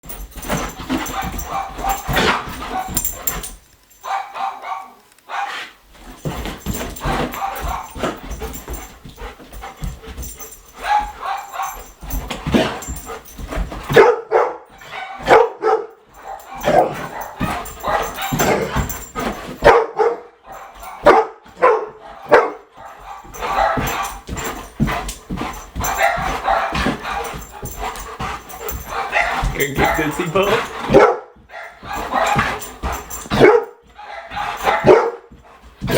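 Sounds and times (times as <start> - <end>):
dog barking and yipping: 0.1 - 35.9.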